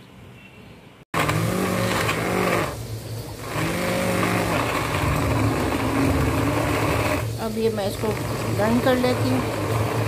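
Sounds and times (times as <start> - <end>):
blade churning liquid: 1.2 - 10.0
hand blender motor humming: 1.2 - 10.0.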